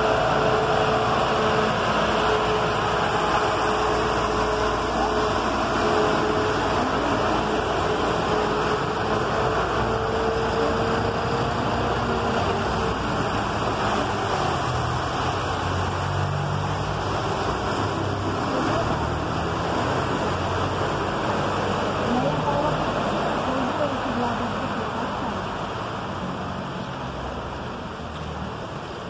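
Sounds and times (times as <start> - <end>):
bus engine drone: 0.0 - 29.0
water rushing from wheels: 0.0 - 29.0.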